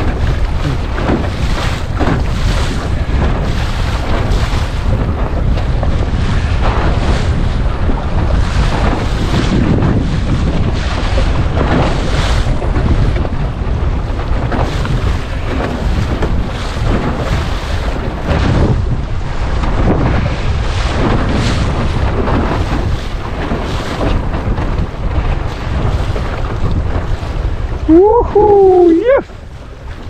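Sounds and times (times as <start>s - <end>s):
waves splashing against hull: 0.0s - 30.0s
wind buffeting microphone: 0.0s - 30.0s.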